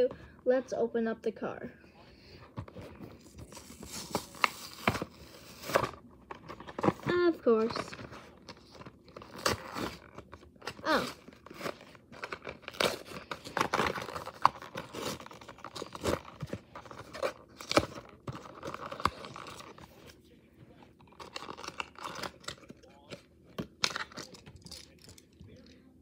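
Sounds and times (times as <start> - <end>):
plastic packaging crinkling and tearing: 3.1 - 20.0, 21.0 - 25.3.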